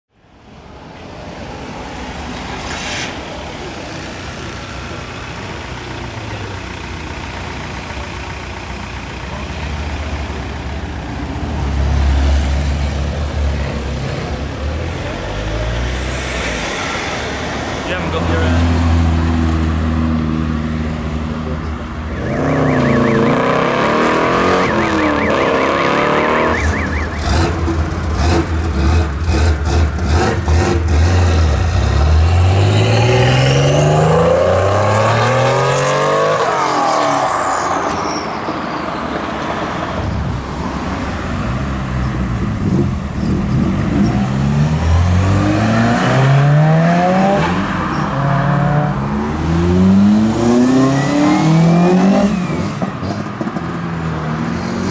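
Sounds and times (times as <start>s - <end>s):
car engines revving and accelerating: 0.4s - 54.9s.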